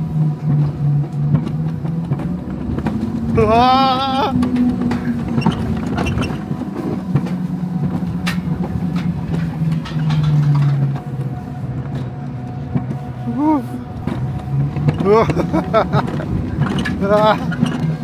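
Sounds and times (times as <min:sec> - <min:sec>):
coaster wheels rumbling on rails: 0:00.0 - 0:18.0.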